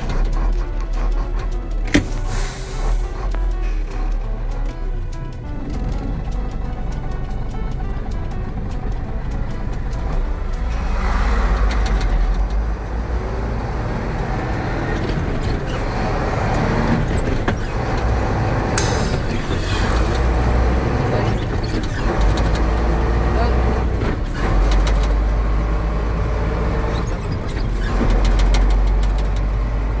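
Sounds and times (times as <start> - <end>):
rattles in truck cab: 0.0 - 30.0
road noise: 0.0 - 30.0
truck engine rumble: 0.0 - 30.0.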